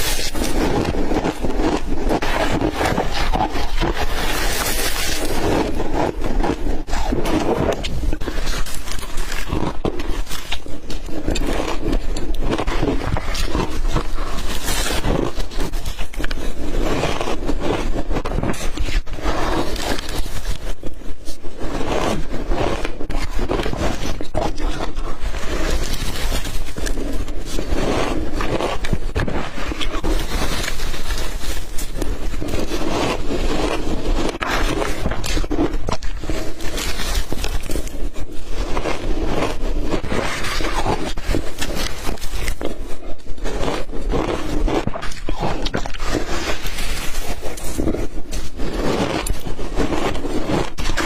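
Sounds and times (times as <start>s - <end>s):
ice crunching being chewed: 0.0s - 51.0s.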